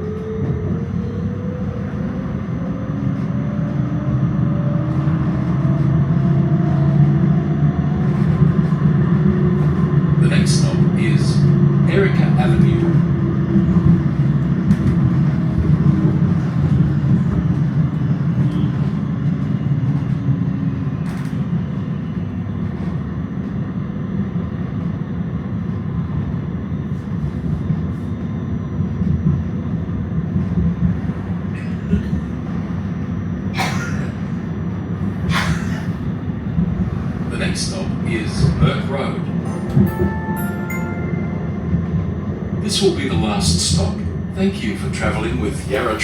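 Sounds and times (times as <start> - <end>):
tram rumbling on rails: 0.0 - 46.0.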